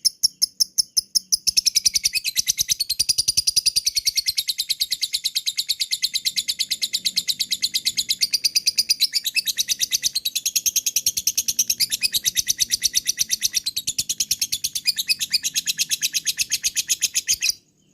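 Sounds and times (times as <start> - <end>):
bird rapid high-pitched chirps: 0.0 - 17.9.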